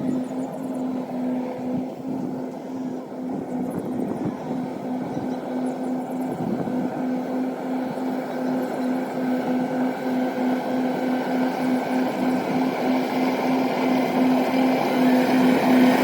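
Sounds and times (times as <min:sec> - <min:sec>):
harvester engine droning: 0:00.0 - 0:16.0.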